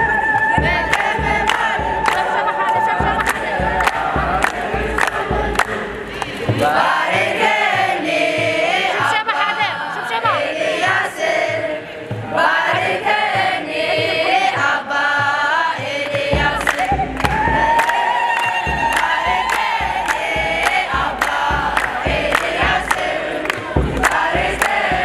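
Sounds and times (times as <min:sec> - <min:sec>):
choir singing a hymn: 0:00.0 - 0:25.0
steady beat: 0:00.0 - 0:25.0.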